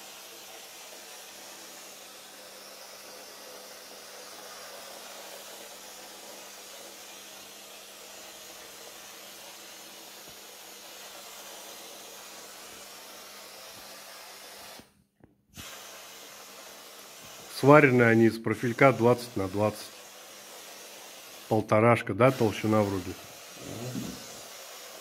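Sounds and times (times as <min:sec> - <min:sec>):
spray gun hissing: 0:00.0 - 0:14.9, 0:15.6 - 0:25.0.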